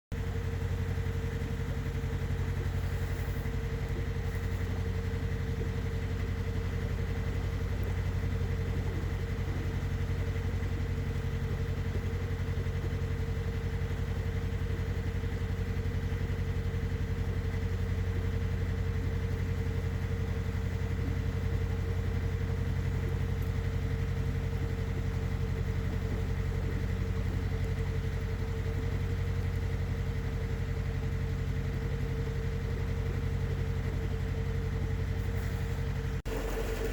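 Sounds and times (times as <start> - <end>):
boat engine droning: 0.2 - 36.9.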